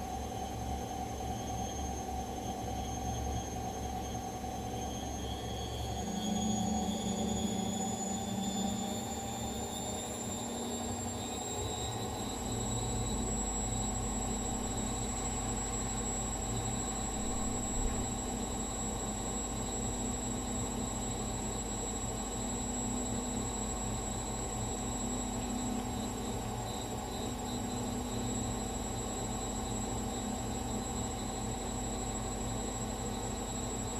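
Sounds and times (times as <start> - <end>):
washing machine motor whine: 0.0 - 33.9.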